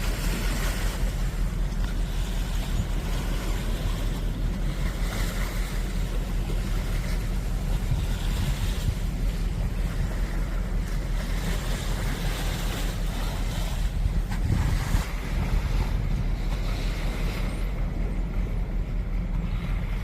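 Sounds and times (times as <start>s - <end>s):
boat engine rumble: 0.0s - 20.0s
rushing water: 0.0s - 20.0s
wind noise on microphone: 0.0s - 20.0s.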